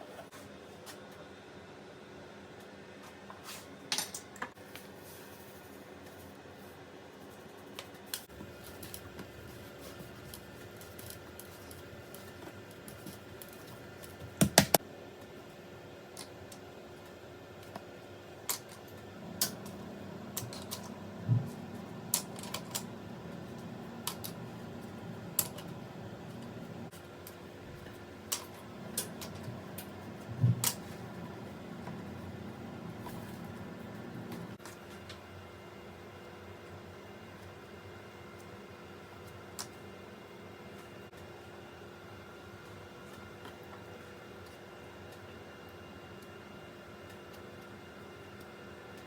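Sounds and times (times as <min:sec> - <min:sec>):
faint steady hum: 0:04.4 - 0:49.0.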